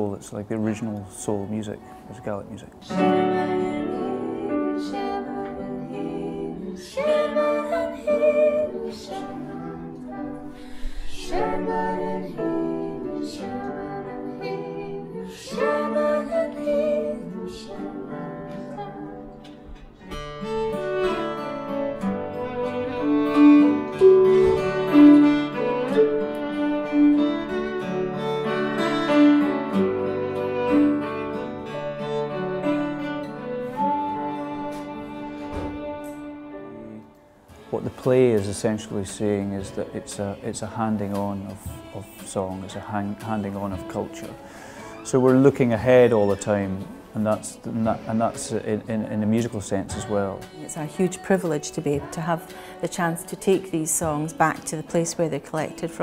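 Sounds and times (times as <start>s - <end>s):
acoustic guitar: 0.0s - 56.0s
folk music melody: 0.0s - 56.0s
fiddle: 2.2s - 56.0s.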